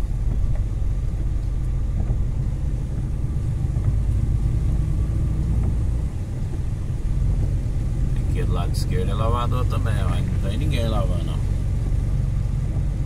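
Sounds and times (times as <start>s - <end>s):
truck engine drone: 0.0s - 13.0s
tyres on wet road: 0.0s - 13.0s.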